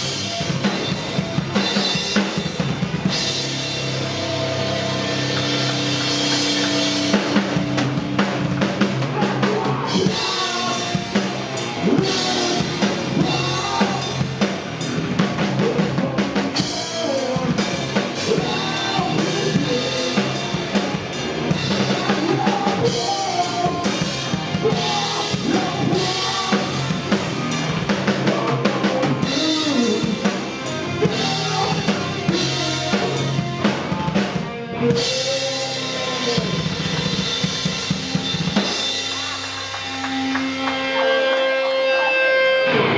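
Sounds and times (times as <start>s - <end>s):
heavy rock band playing live: 0.0s - 42.9s.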